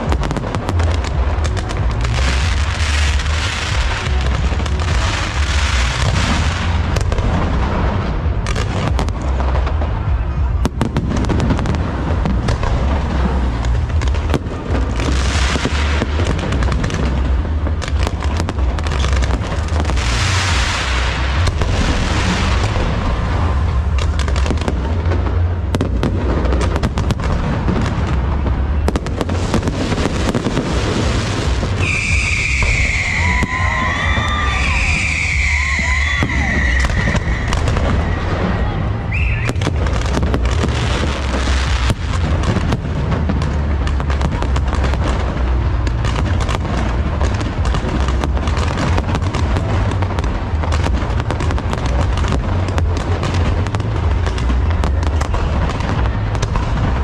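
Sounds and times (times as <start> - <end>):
firework crackle: 0.0 - 57.0
firework sharp reports: 0.0 - 57.0.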